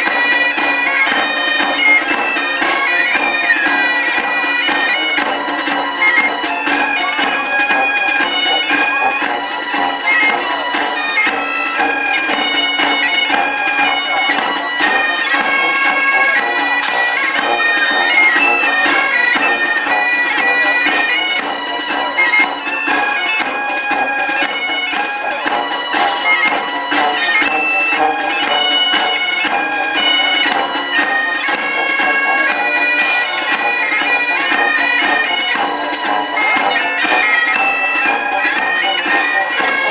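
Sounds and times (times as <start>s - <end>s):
wind instrument melody: 0.0s - 39.9s.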